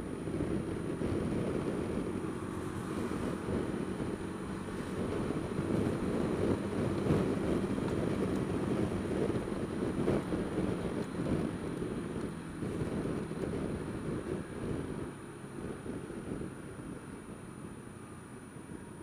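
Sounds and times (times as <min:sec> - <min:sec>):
faint scooter engine: 0:00.0 - 0:19.0
wind buffeting microphone: 0:00.0 - 0:19.0.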